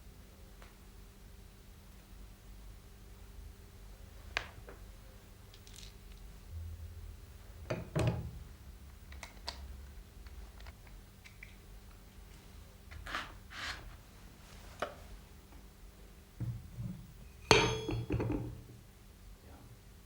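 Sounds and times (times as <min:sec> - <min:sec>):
low steady hum: 0:01.2 - 0:13.0, 0:14.0 - 0:20.0.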